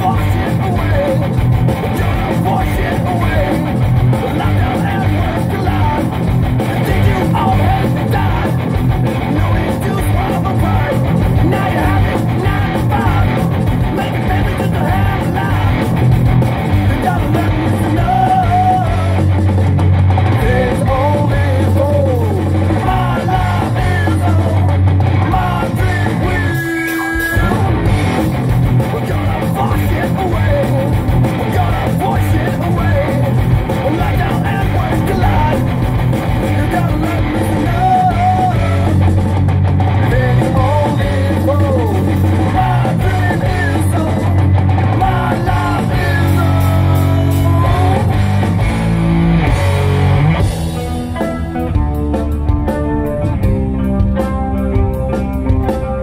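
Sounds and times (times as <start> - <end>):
rock band with guitar and singing: 0.0 - 56.0.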